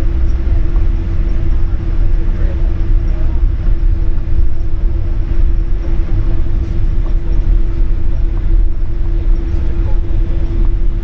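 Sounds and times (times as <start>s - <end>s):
airliner cabin rumble and drone: 0.0s - 11.0s.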